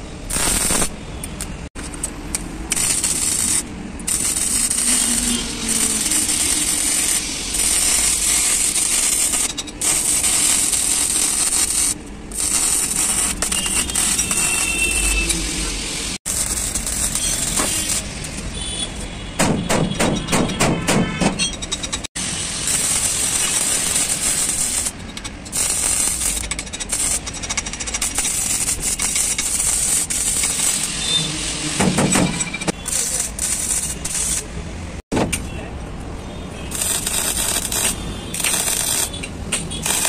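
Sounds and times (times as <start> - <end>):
pulsing welding buzz: 0.0 - 1.0, 1.8 - 18.8, 22.2 - 32.0, 32.6 - 34.5, 36.6 - 40.0
welding arc crackling hiss: 0.0 - 1.0, 1.8 - 18.8, 22.2 - 32.1, 32.7 - 34.5, 36.6 - 40.0.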